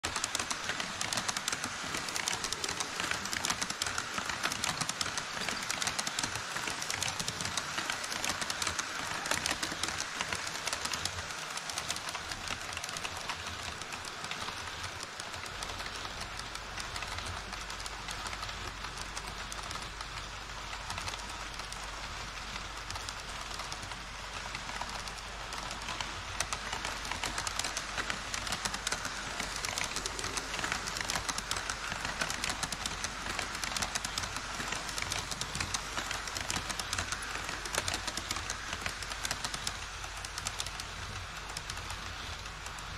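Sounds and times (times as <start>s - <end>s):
model train wheels clattering: 0.0s - 42.9s.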